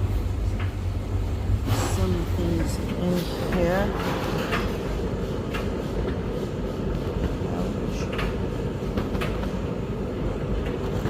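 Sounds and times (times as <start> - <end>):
tumble dryer drum rumbling: 0.0 - 11.0.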